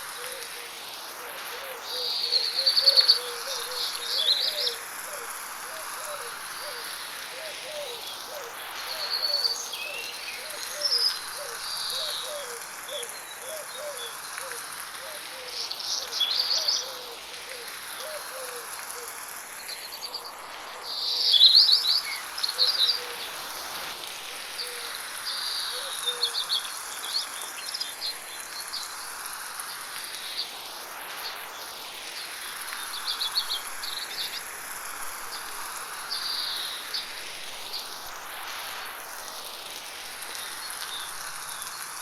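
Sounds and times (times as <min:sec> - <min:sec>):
light rain hissing: 0:00.0 - 0:42.0.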